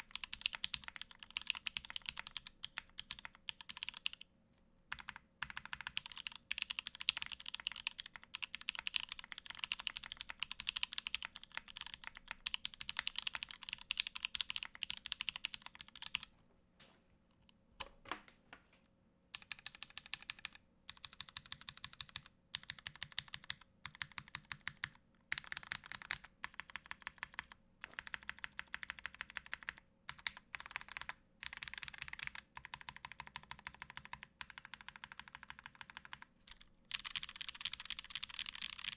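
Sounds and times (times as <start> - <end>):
mechanical keyboard typing: 0.0 - 4.2, 4.9 - 16.3, 19.4 - 38.9.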